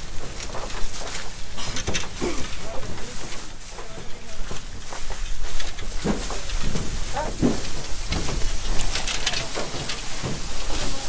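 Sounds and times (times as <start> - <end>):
sacks rustling and knocking: 0.0 - 11.0.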